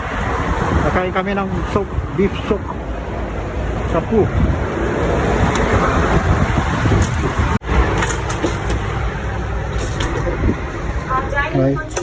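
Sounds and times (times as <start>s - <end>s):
vehicle road noise rumble: 0.0s - 12.0s.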